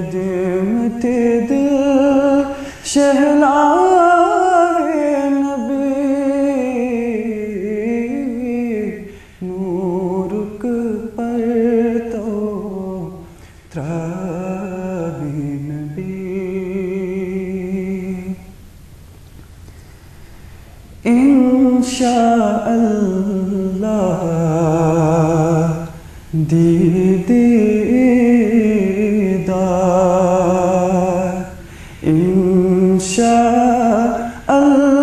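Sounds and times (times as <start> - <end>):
man singing unaccompanied: 0.0 - 18.7, 21.0 - 35.0.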